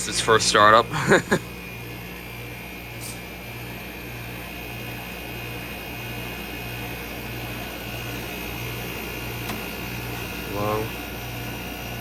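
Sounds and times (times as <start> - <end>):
air conditioner humming with low throb: 0.0 - 12.0.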